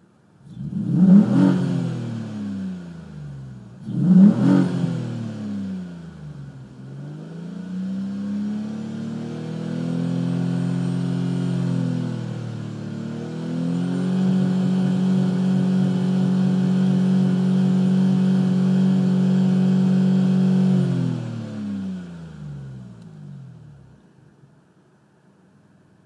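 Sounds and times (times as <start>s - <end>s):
car engine revving: 0.4s - 24.0s.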